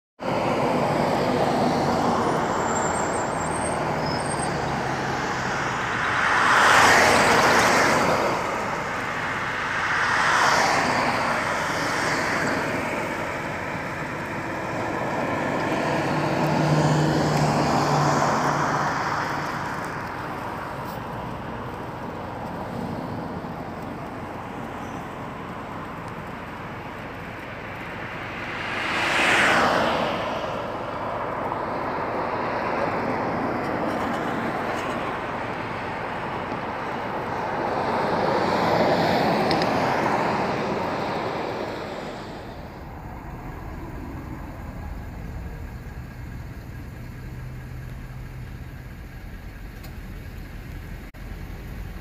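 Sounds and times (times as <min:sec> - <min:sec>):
steady traffic rush: 0:00.2 - 0:52.0
vehicles passing: 0:00.2 - 0:52.0.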